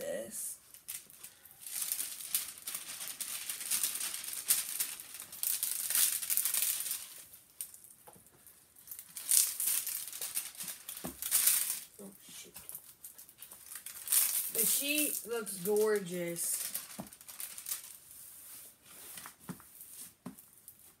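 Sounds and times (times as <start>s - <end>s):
plastic film crinkling: 0.6s - 21.0s.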